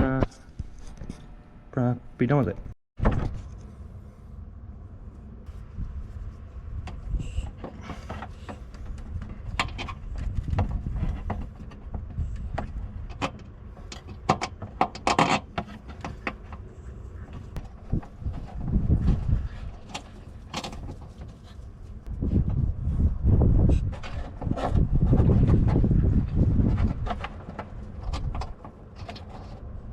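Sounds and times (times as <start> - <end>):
wind rumbling on microphone: 3.0 - 29.9.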